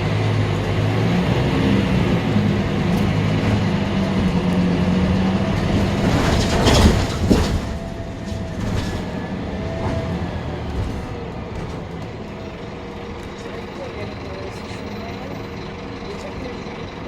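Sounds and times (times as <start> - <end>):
bus body rattling: 0.0 - 17.0
bus engine hum: 0.0 - 17.0.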